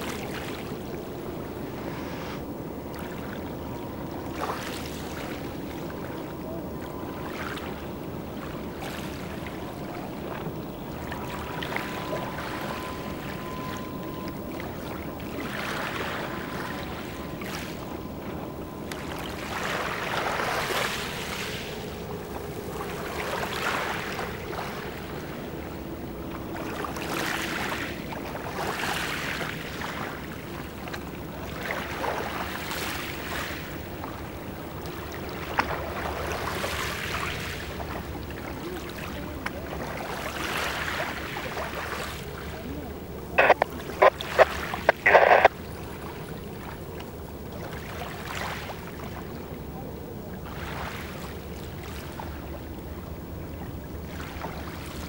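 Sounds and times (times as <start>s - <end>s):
faint distant engine drone: 0.0s - 55.0s
lake water lapping: 0.0s - 55.0s
wind: 0.0s - 55.0s.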